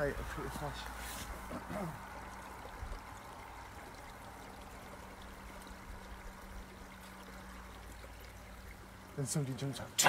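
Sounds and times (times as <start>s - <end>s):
faint trickle of running water: 0.0s - 10.0s.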